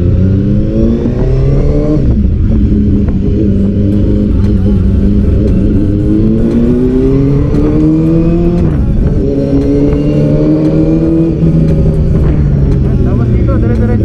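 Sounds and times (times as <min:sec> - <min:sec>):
low road rumble: 0:00.0 - 0:14.0
vehicle engine accelerating: 0:00.0 - 0:14.0.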